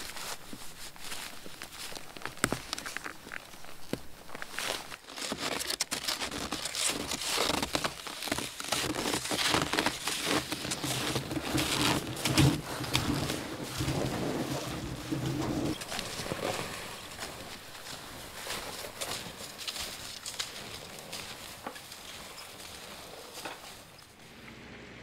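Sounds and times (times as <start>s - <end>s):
footsteps crunching in snow: 0.0s - 24.2s
sled dragging on snow: 0.0s - 24.8s.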